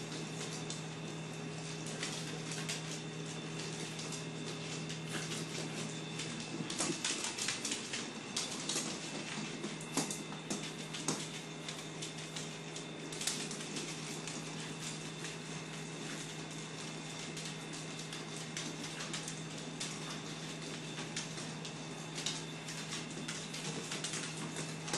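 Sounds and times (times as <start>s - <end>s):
dog claws on floor: 0.0s - 24.9s.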